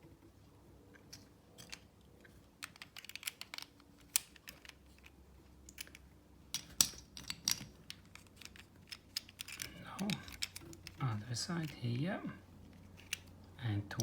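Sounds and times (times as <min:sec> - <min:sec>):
plastic puzzle pieces clicking: 0:01.0 - 0:11.8, 0:12.7 - 0:13.3.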